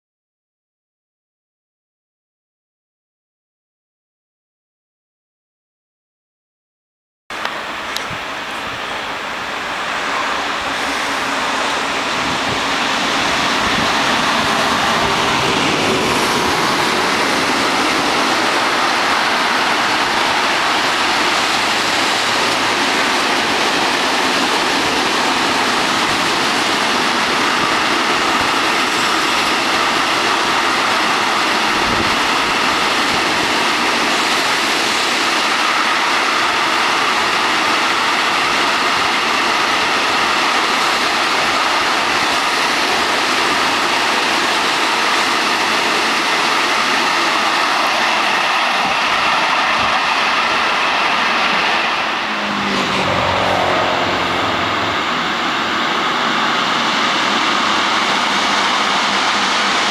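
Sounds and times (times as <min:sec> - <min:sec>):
freight train wheels rolling on rails: 0:07.4 - 0:59.9.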